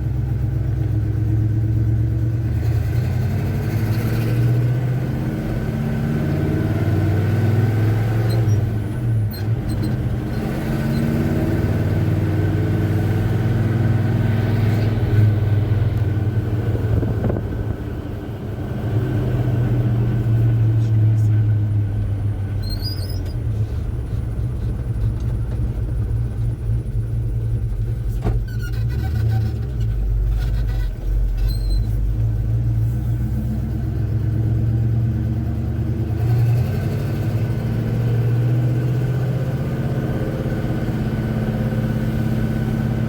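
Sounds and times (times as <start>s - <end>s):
truck engine driving: 0.0s - 43.0s.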